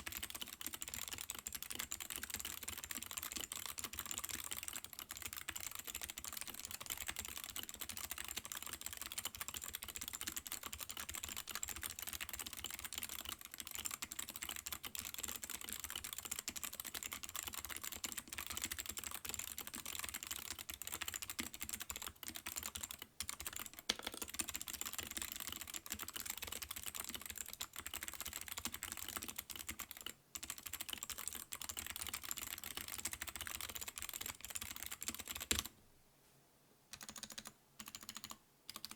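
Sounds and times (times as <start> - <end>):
fast typing on mechanical keyboard: 0.0 - 35.7, 37.0 - 38.9.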